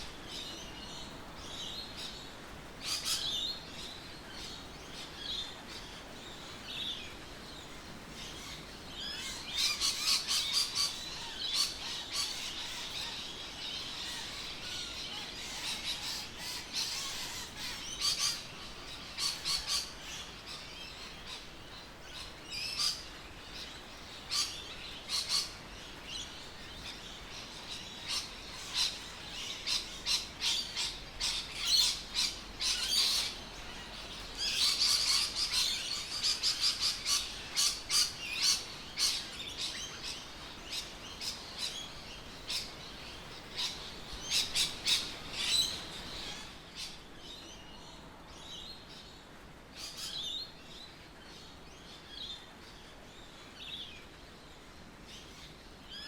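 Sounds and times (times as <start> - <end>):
birds chirping: 0.0 - 56.0
faint background hiss: 0.0 - 56.0.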